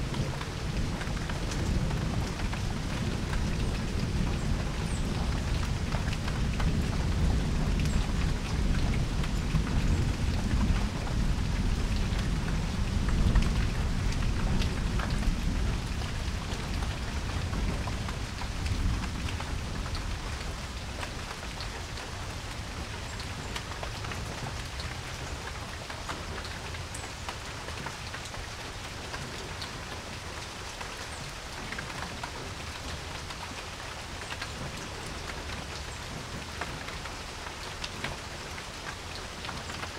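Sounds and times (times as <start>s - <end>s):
drops and drips ticking: 0.0s - 39.9s
rain falling on a porch: 0.0s - 39.9s.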